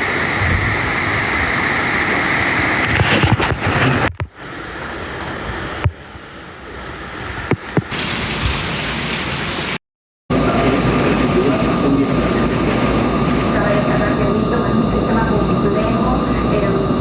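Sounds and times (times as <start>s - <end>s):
wind and rain on microphone: 0.0s - 17.0s.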